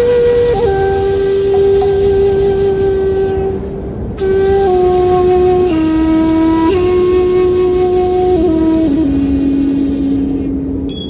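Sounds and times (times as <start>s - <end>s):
flute-like tone holding one note: 0.0s - 11.0s
soft background hiss: 0.0s - 11.0s.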